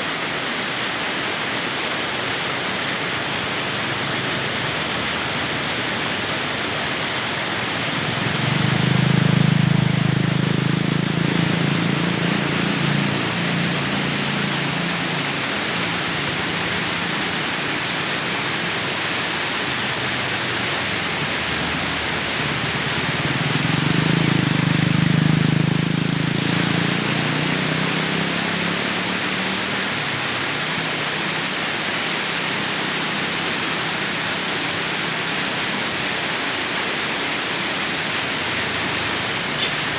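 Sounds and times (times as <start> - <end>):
river water rushing: 0.0 - 39.9
vehicle engine hum passing: 2.1 - 39.9.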